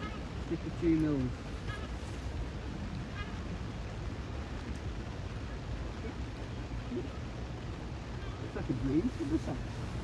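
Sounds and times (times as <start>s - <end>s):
steady rain: 0.0s - 10.0s.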